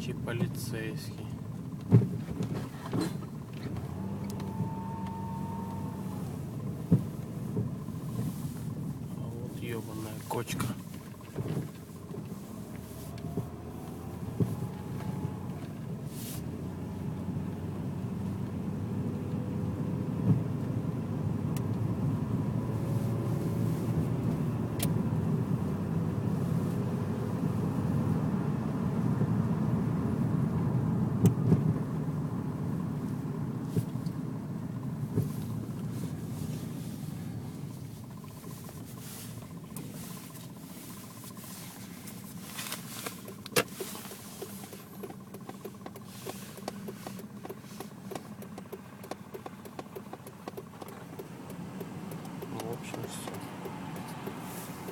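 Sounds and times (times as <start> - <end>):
car tyre and engine rumble: 0.0 - 54.9.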